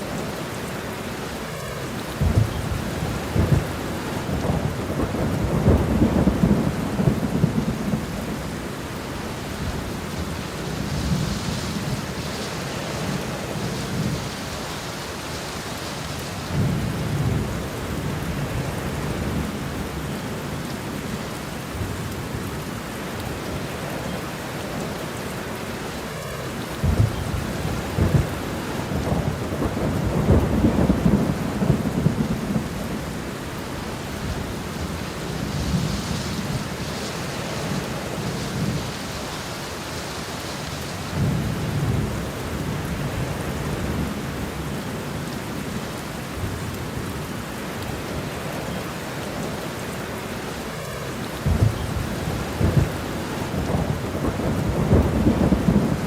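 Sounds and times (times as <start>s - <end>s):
steady rain: 0.0s - 56.0s
thunder rumbling: 1.4s - 22.6s, 23.4s - 45.1s, 50.7s - 56.0s.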